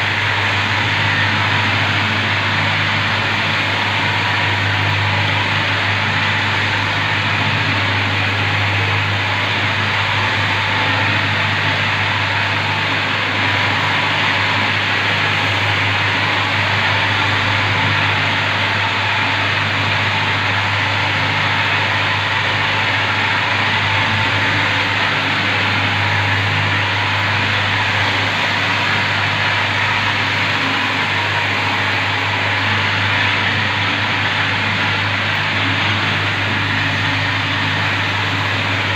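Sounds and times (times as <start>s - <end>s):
polishing machine humming: 0.0s - 38.9s.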